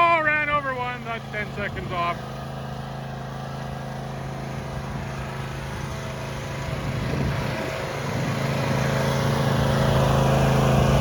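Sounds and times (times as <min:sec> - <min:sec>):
riding lawn mower engine: 0:00.0 - 0:11.0.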